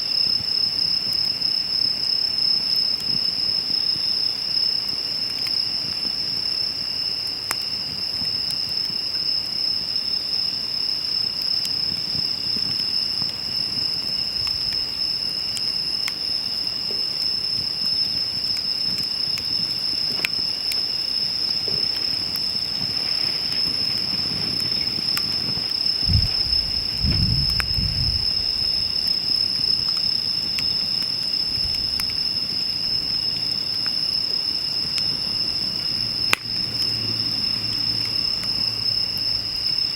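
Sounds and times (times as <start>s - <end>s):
crickets trilling: 0.0s - 39.9s
wood fire crackling: 0.0s - 39.9s.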